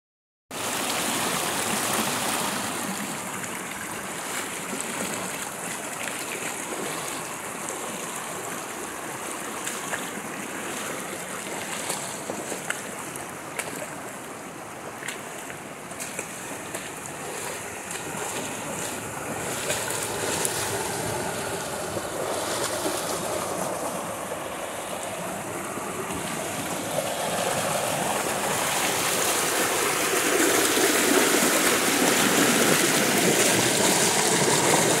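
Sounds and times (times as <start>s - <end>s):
mountain stream rushing: 0.6s - 35.0s.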